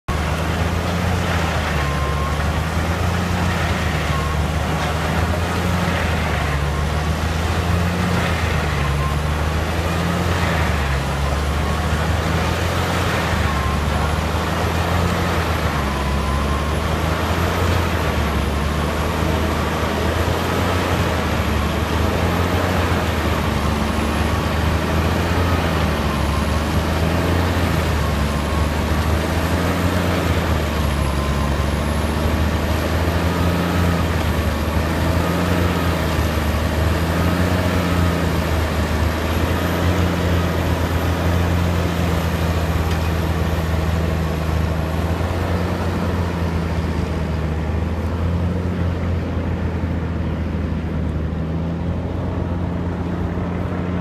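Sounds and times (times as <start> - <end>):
wood chipper drone: 0.0 - 54.0.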